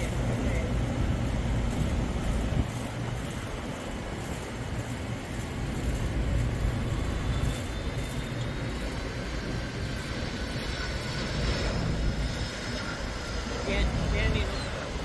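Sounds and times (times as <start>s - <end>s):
faint jet engine whine: 0.0s - 15.0s
jet airliner rumble: 0.0s - 15.0s
wind buffeting microphone: 0.0s - 15.0s.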